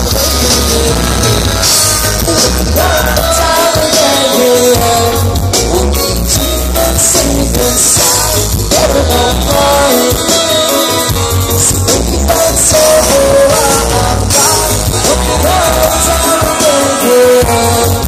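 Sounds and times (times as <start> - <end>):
reggae band playing over loudspeakers: 0.0 - 18.0.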